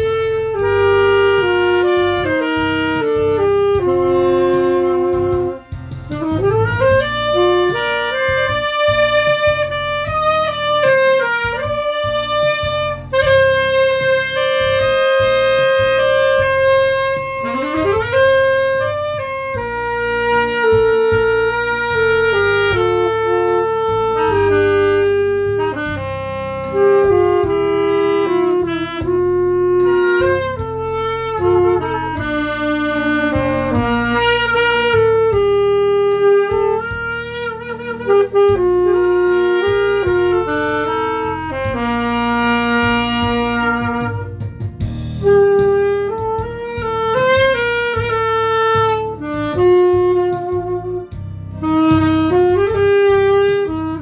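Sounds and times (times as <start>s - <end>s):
recorded accompaniment: 0.0s - 54.0s
saxophone melody: 0.0s - 54.0s.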